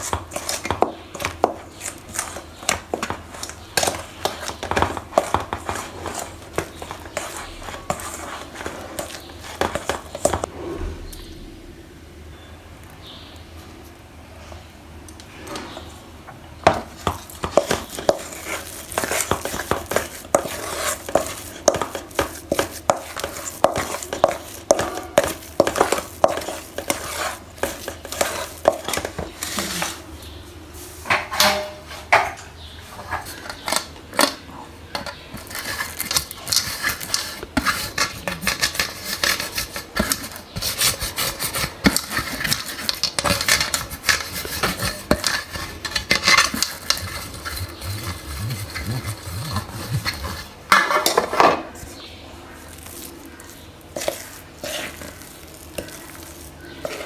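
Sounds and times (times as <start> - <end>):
utensil scraping cookware: 0.0 - 10.9, 17.0 - 30.1, 31.0 - 52.1, 53.3 - 57.0.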